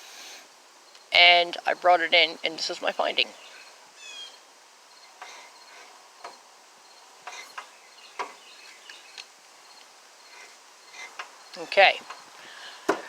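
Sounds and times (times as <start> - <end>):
insect chirping trill: 0.0 - 12.9.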